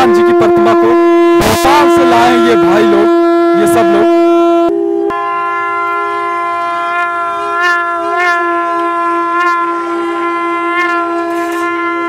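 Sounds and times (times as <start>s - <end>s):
conch shells and brass horn blown: 0.0s - 12.0s.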